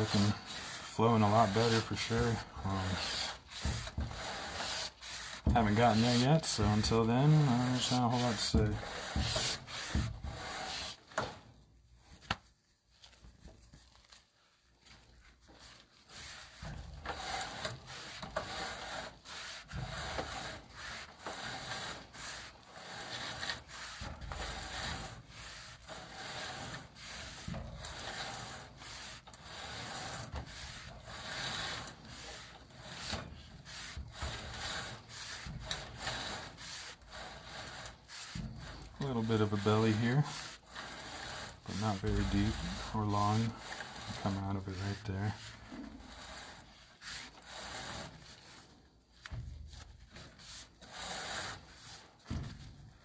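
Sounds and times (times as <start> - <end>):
cable rubbing and scraping: 0.0 - 11.4, 14.9 - 52.6.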